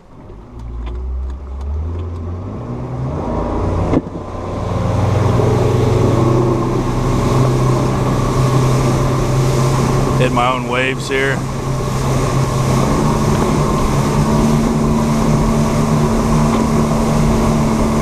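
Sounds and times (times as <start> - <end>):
outboard motor revving: 0.0 - 18.0.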